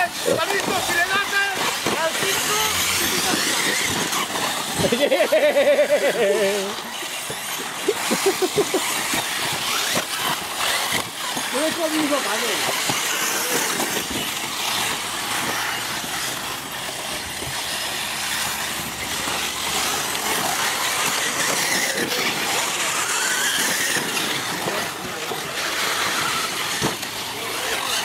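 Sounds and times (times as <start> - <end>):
rc car motors whining: 0.0 - 28.0.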